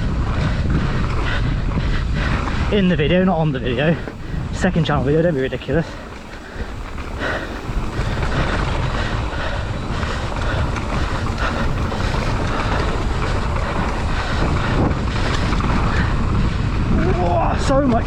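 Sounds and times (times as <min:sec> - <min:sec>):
bike tyres rolling on dirt: 0:00.0 - 0:18.0
wind on microphone: 0:00.0 - 0:18.0.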